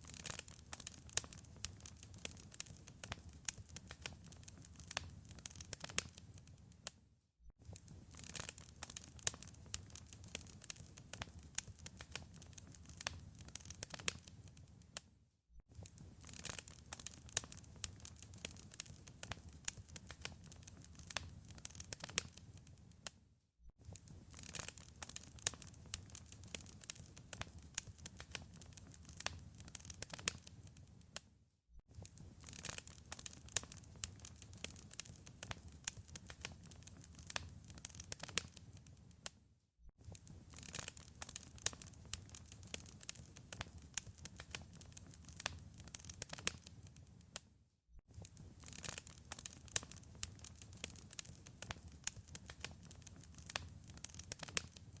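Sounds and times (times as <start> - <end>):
wood fire crackling and popping: 0.0 - 6.9, 7.6 - 15.0, 15.7 - 23.1, 23.8 - 31.2, 32.0 - 39.3, 40.0 - 47.4, 48.1 - 55.0.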